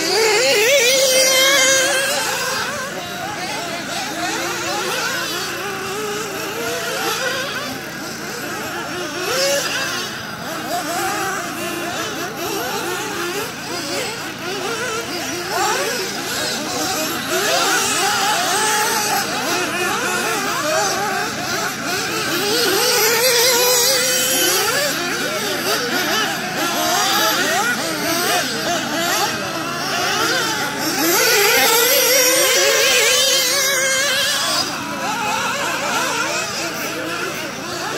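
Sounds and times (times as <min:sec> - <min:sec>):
rc car motors whining: 0:00.0 - 0:37.9.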